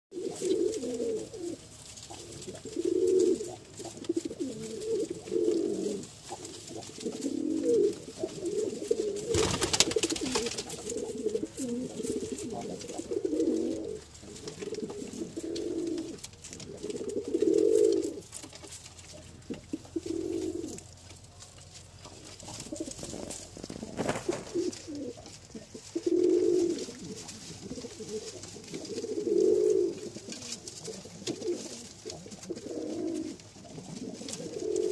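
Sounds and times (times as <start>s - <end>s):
pigeons cooing: 0.1s - 34.9s
wings flapping: 0.2s - 18.2s, 22.2s - 34.9s.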